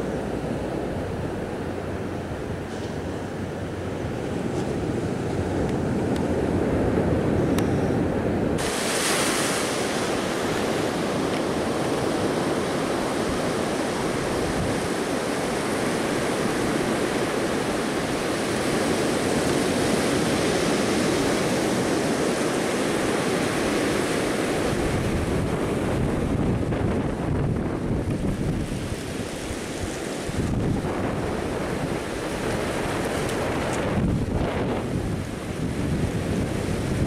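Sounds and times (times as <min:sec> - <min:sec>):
ocean surf breaking on beach: 0:00.0 - 0:37.0
wind buffeting microphone: 0:00.0 - 0:37.0.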